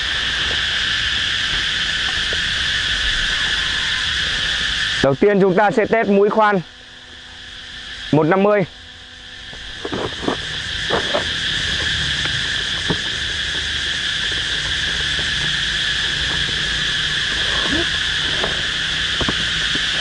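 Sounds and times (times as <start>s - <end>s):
high drone of insects: 0.0s - 20.0s.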